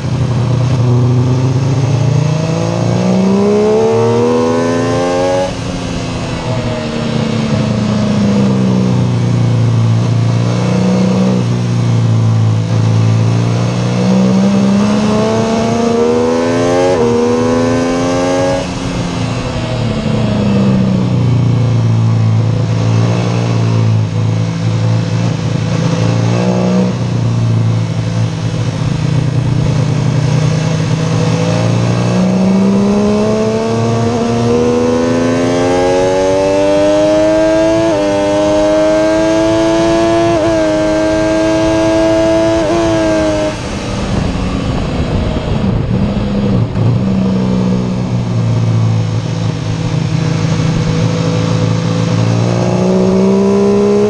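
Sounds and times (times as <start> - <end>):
motorcycle engine revving: 0.0 - 54.0
wind rush: 3.4 - 10.4, 14.1 - 54.0.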